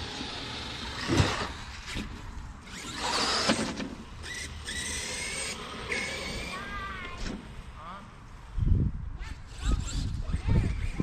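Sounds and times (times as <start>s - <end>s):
electric toy car motor whining: 0.0s - 7.2s, 9.2s - 11.0s.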